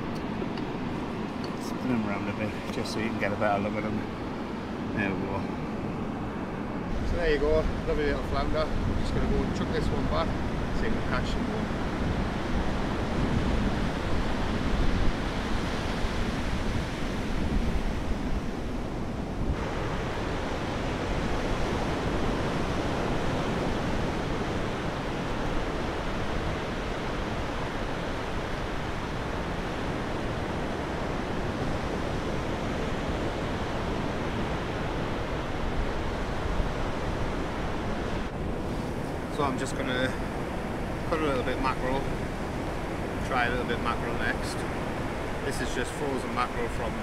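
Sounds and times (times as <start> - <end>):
waves breaking on beach: 0.0 - 47.0
wind buffeting microphone: 0.0 - 47.0.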